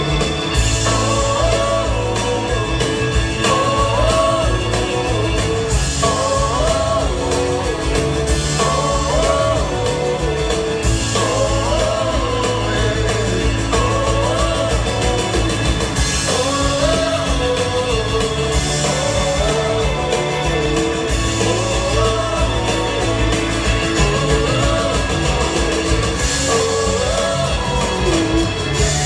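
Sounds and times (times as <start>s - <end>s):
live rock band: 0.0s - 29.0s
person singing: 0.0s - 29.0s.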